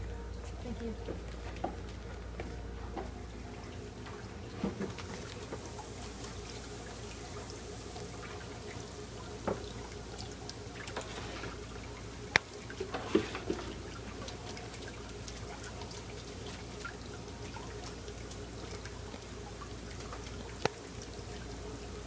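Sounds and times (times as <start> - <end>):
low steady hum: 0.0 - 22.0
water running and trickling: 0.0 - 22.0.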